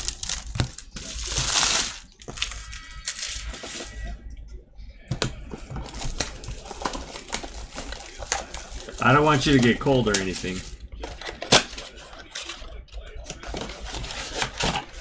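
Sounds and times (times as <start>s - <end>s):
cards and boxes clicking: 0.0s - 4.0s, 5.1s - 15.0s
plastic wrappers crinkling: 0.0s - 4.1s, 5.1s - 15.0s.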